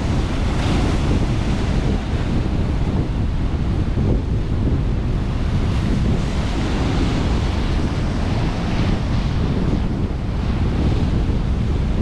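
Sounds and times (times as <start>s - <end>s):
sea waves breaking: 0.0s - 12.0s
wind buffeting microphone: 0.0s - 12.0s.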